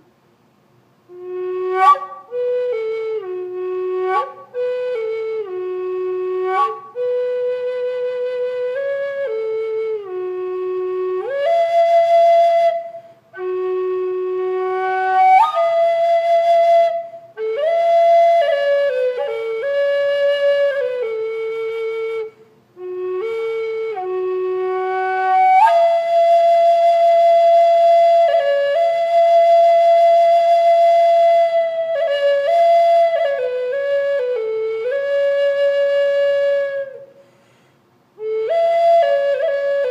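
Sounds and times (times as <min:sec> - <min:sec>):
flute solo melody: 0:01.1 - 0:37.1, 0:38.2 - 0:39.9.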